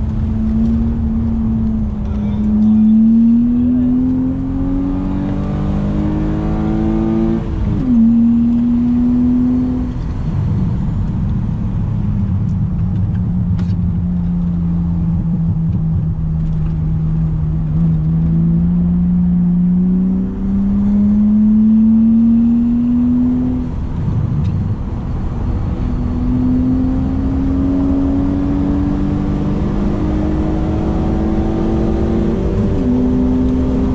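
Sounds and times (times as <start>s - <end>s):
car engine revving: 0.0s - 33.9s.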